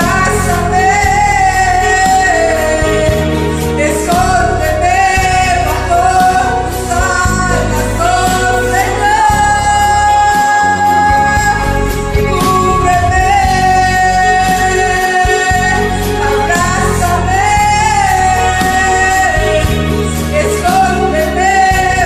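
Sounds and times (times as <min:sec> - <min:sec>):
instrumental karaoke backing track: 0:00.0 - 0:22.0
woman singing: 0:00.0 - 0:22.0.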